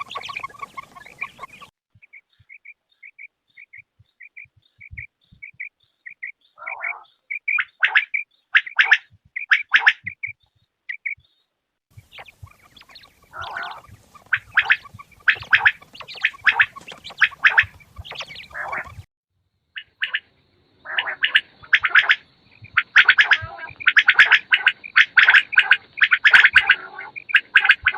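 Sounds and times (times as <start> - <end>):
quails calling: 0.0 - 19.1, 19.8 - 27.9.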